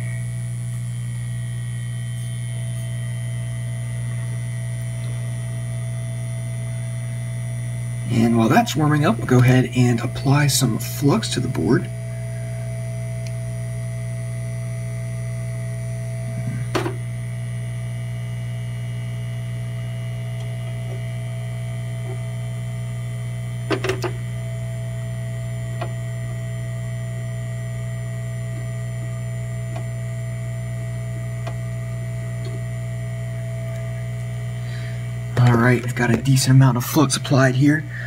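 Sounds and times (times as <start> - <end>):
rework station humming: 0.0 - 38.0.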